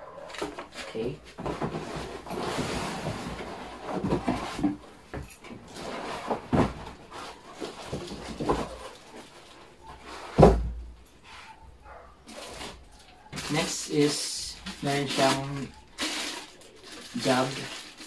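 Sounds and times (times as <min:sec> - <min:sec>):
packaging rustling and scraping: 0:00.2 - 0:10.6, 0:11.2 - 0:18.0.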